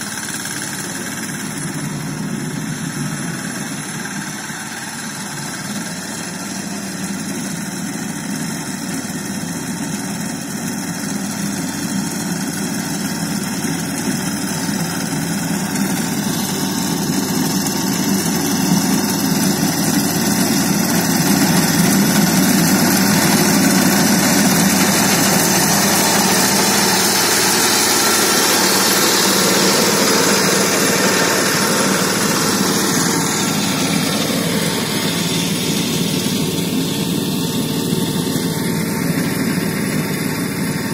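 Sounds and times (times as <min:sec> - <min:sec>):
reaper engine running: 0:00.0 - 0:40.9.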